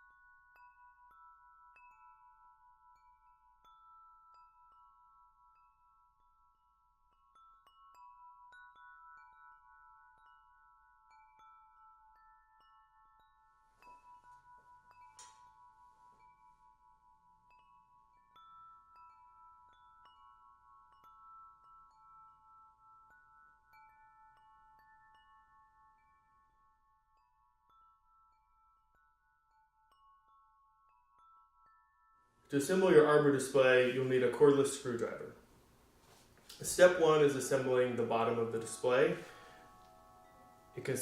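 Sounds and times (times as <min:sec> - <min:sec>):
faint wind chimes ringing: 0:00.0 - 0:41.0.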